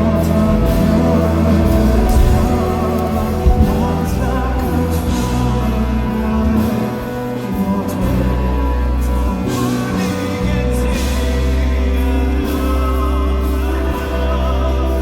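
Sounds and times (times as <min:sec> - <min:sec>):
live band over loudspeakers: 0:00.0 - 0:15.0
person singing: 0:00.0 - 0:15.0.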